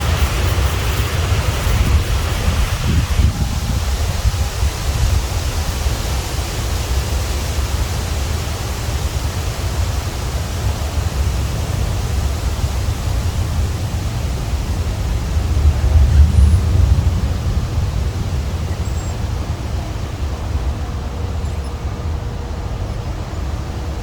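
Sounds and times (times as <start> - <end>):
wind buffeting microphone: 0.0 - 24.0
wind rustling leaves: 0.0 - 24.0.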